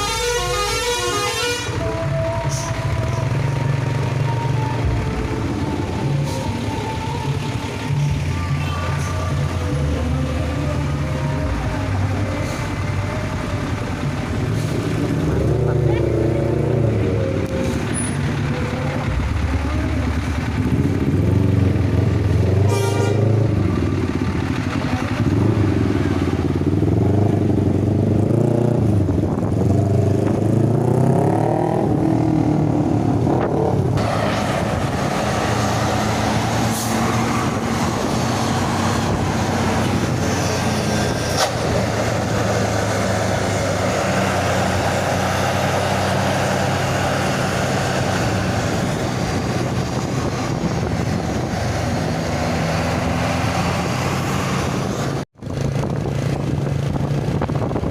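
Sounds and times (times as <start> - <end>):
bus diesel engine accelerating: 0.0 - 57.9
road noise: 0.0 - 57.9.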